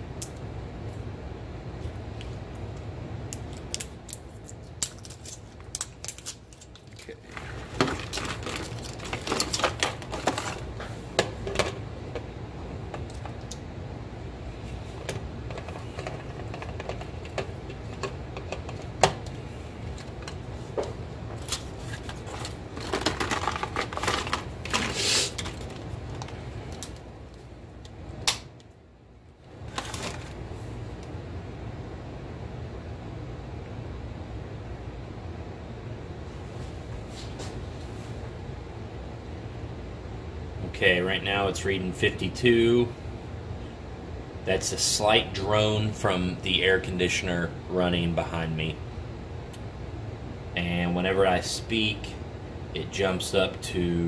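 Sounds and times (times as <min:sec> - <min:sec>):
air conditioner drone: 0:00.0 - 0:54.0.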